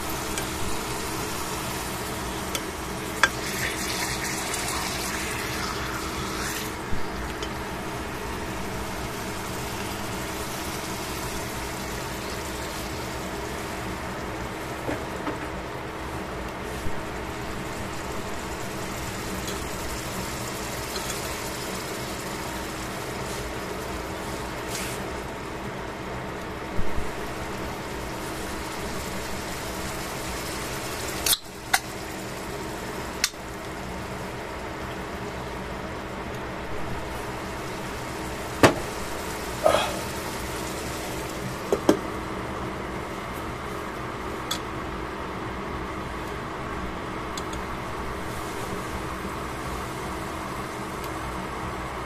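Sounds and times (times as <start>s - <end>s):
meat sizzling in a frying pan: 0.0s - 14.9s, 16.6s - 35.3s, 36.6s - 43.2s, 47.2s - 51.8s.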